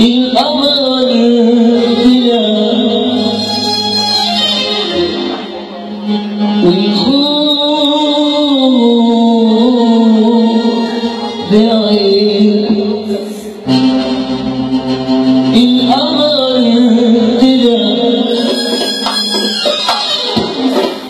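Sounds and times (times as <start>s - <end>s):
man singing into microphone: 0.0s - 3.9s, 6.4s - 19.6s
live band playing: 0.0s - 21.0s.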